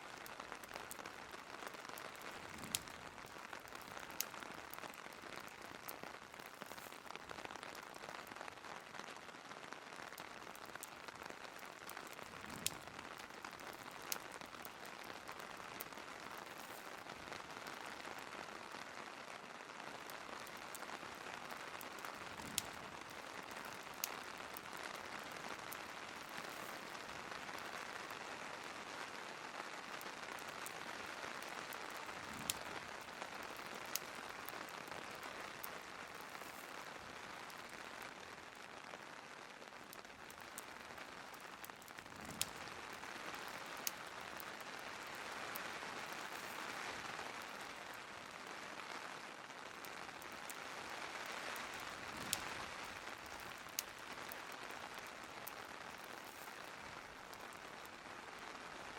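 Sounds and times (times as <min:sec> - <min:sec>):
wood fire popping: 0:00.0 - 0:48.6, 0:49.6 - 0:58.6
rain hiss: 0:00.0 - 0:58.9.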